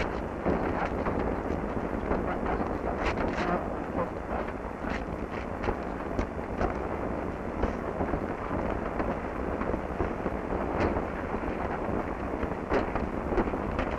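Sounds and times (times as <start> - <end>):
low hum: 0.0 - 13.9
steady rushing noise: 0.0 - 13.9.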